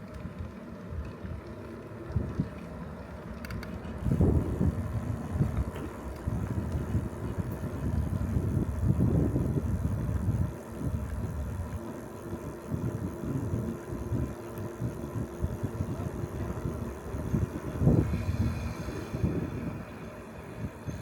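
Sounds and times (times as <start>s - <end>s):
wind buffeting microphone: 3.4s - 21.0s.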